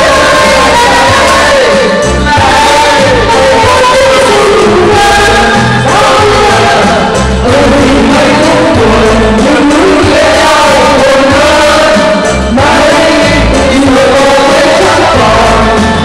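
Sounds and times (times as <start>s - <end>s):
bass line: 0.0s - 16.0s
person singing: 0.0s - 16.0s.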